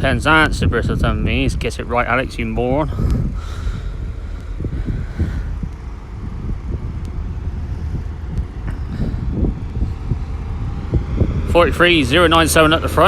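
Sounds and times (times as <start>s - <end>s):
train passing with low rumble: 0.0s - 13.0s.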